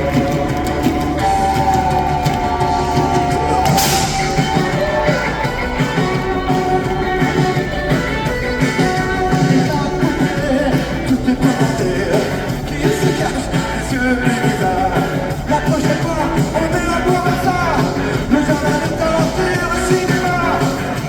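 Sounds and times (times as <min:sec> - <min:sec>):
live rock band playing: 0:00.0 - 0:21.0
person singing: 0:00.0 - 0:21.0.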